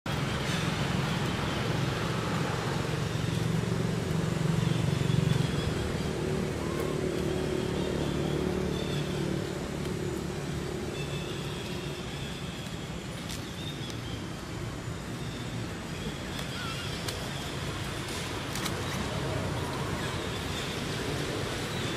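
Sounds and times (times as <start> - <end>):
vehicle engine rumbling: 0.0 - 21.9.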